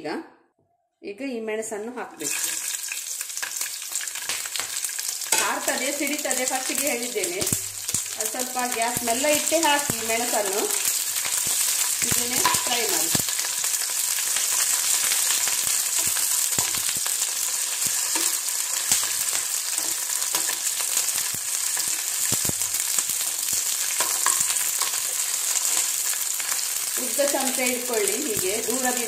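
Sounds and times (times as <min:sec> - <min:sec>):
chillies sizzling in hot oil: 0:02.2 - 0:29.0.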